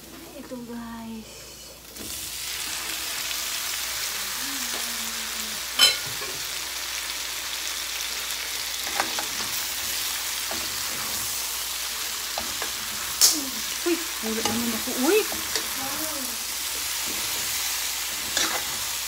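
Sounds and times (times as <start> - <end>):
meat sizzling in a wok: 0.0 - 19.0.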